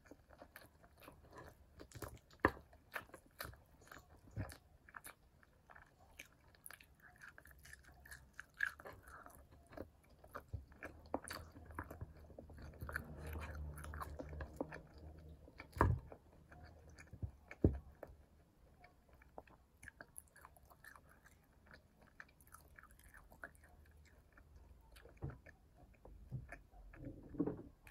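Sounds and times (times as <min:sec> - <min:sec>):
close chewing and wet mouth sounds: 0:00.0 - 0:27.9.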